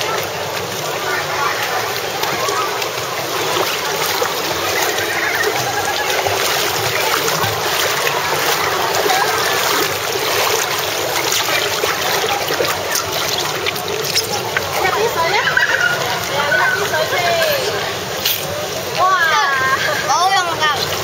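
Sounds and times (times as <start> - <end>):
pool water splashing: 0.0 - 21.0.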